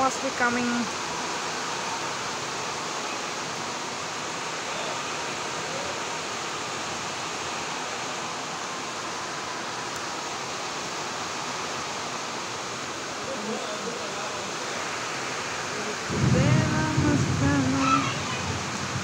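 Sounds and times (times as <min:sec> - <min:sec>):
heavy rain falling on trees: 0:00.0 - 0:19.0.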